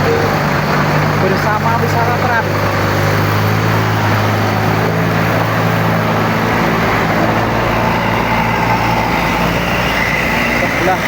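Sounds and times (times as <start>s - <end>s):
diesel engine idling: 0.0s - 11.0s
surrounding vehicle noise: 0.0s - 11.0s.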